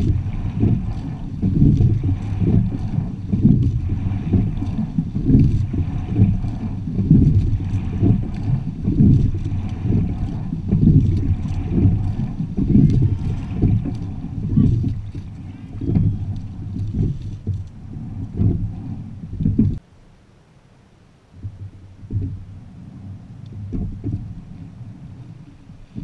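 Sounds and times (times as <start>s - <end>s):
wind buffeting microphone: 0.0s - 19.8s, 21.3s - 26.0s
water rushing along hull: 0.0s - 26.0s.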